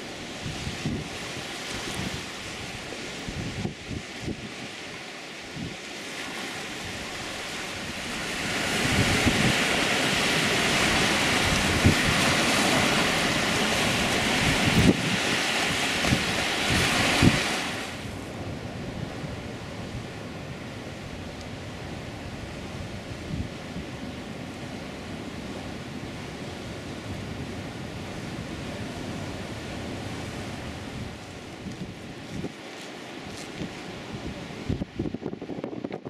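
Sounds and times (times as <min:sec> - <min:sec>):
waves rushing: 0:00.0 - 0:36.0
wind buffeting microphone: 0:00.0 - 0:36.0.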